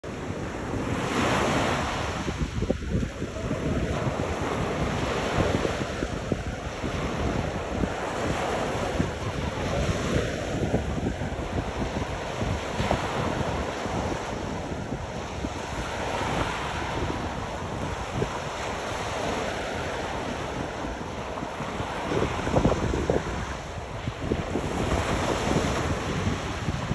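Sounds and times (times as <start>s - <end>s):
ocean waves washing onto beach: 0.0s - 26.9s
wind rumbling on microphone: 0.0s - 26.9s.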